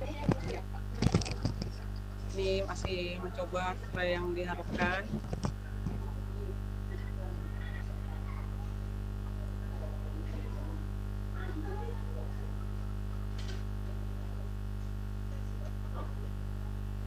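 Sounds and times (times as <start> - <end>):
electrical hum: 0.0 - 17.0
faint indistinct voices: 0.0 - 17.0.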